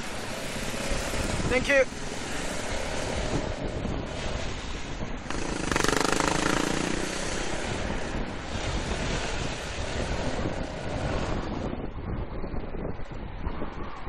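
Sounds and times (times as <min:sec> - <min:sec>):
scooter engine: 0:00.0 - 0:11.4
road noise: 0:00.0 - 0:14.0
wind rushing over microphone: 0:00.0 - 0:14.0.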